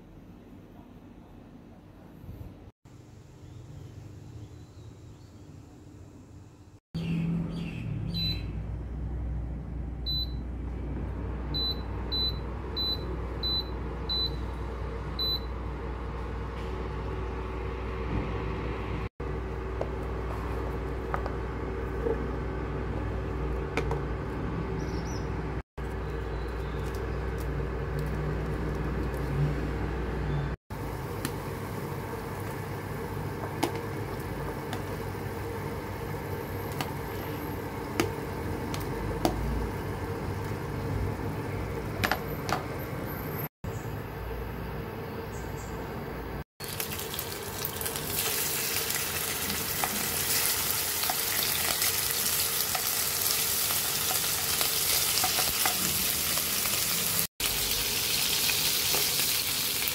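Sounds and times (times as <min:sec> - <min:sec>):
cooling fan hum: 0:00.0 - 0:59.9.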